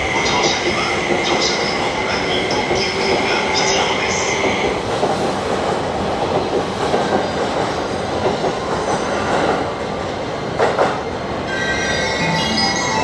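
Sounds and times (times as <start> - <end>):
train wheels rumbling on rails: 0.0 - 11.5.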